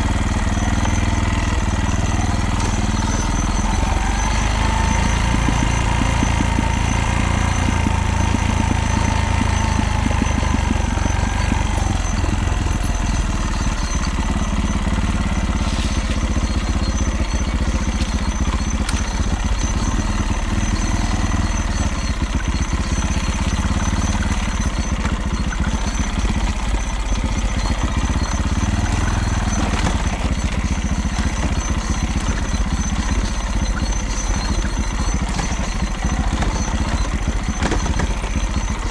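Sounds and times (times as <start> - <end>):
rapid rattling clatter: 0.0 - 38.9
vehicle engine running: 0.0 - 38.9
whine: 0.0 - 38.9.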